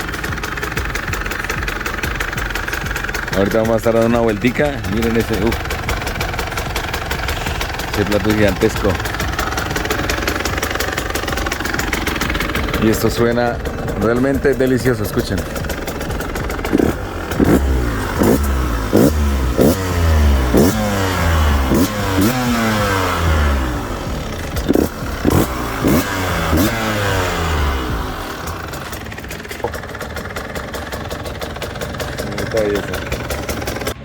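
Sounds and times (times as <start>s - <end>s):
two-stroke engine revving: 0.0s - 34.0s.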